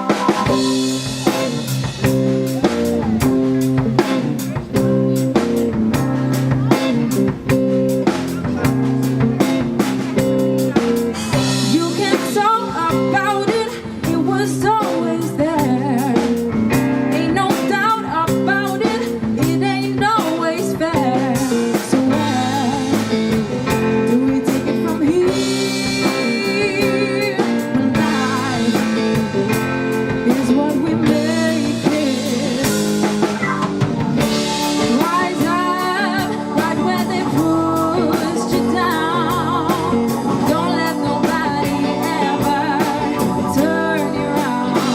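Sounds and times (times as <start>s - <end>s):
wavering lead melody: 0.0s - 18.8s, 20.9s - 44.9s
live blues-rock band: 0.0s - 44.9s.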